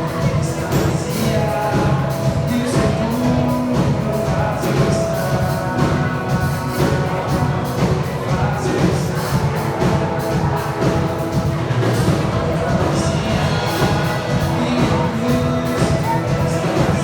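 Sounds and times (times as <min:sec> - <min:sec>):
live band playing worship song: 0:00.0 - 0:17.0.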